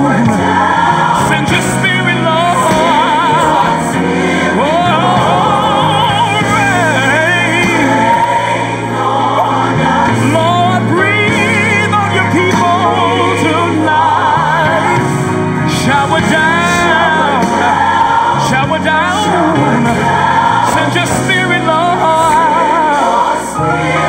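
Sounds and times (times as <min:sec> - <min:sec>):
gospel song with vibrato singing: 0:00.0 - 0:24.0.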